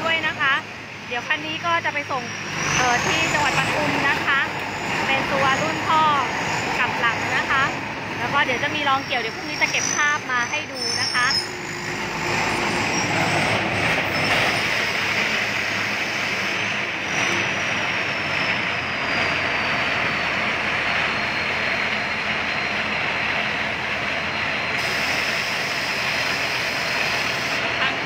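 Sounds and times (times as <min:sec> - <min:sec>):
combine harvester driving past: 0:00.0 - 0:28.0.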